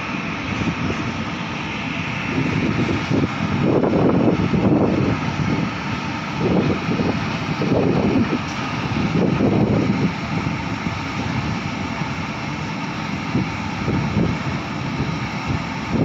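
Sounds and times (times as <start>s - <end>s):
steady mechanical drone: 0.0s - 16.0s
wind buffeting microphone: 0.0s - 16.0s.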